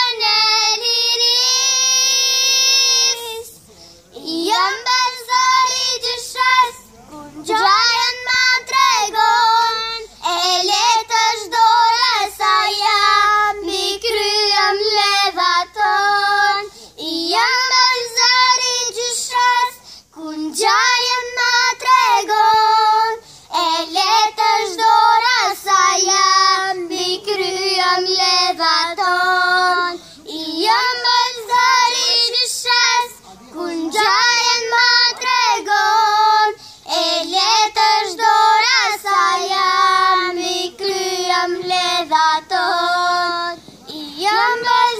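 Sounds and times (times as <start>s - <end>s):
girls singing together: 0.0s - 44.9s.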